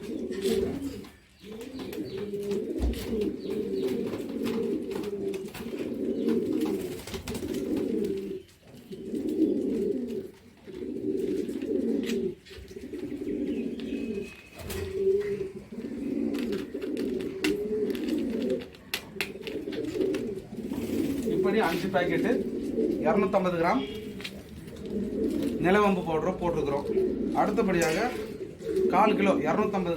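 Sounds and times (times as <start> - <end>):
pigeons cooing: 0.0 - 29.9.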